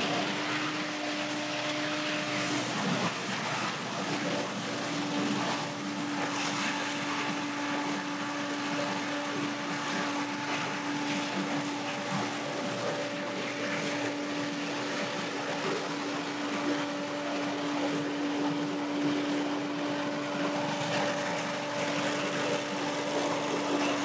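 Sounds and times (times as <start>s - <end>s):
leaf blower engine whine: 0.0s - 24.0s.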